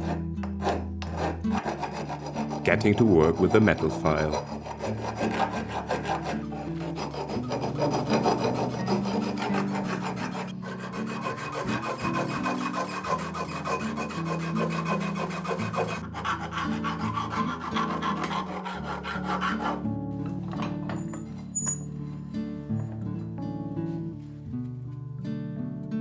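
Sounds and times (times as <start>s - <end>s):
metal file scraping steel: 0.0s - 22.1s.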